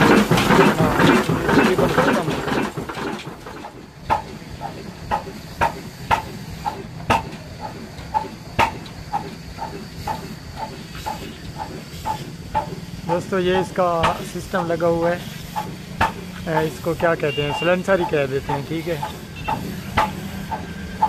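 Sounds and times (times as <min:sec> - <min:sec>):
diesel engine clatter: 0:00.0 - 0:21.0
exhaust puffs: 0:00.0 - 0:21.0.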